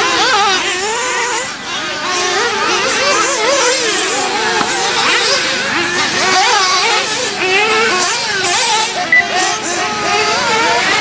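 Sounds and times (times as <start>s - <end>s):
rc buggy motors buzzing: 0.0s - 11.0s.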